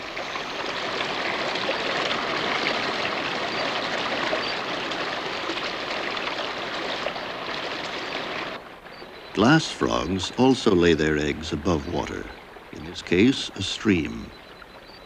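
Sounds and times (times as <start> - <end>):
stream flowing and splashing: 0.0 - 15.0.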